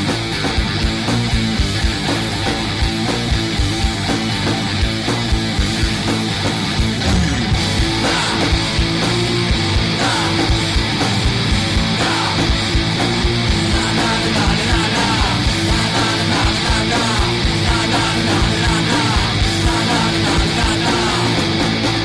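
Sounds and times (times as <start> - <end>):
distorted electric guitars: 0.0 - 22.0
fast steady drumming: 0.0 - 22.0.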